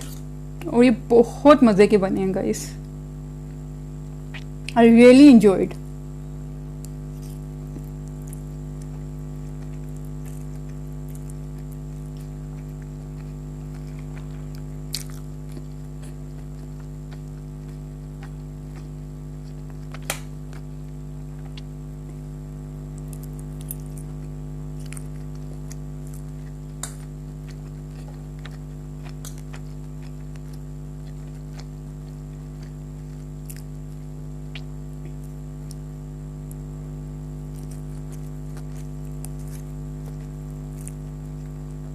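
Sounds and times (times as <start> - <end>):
person chewing: 0.0 - 0.3, 6.8 - 41.9
steady electrical hum: 0.0 - 41.9.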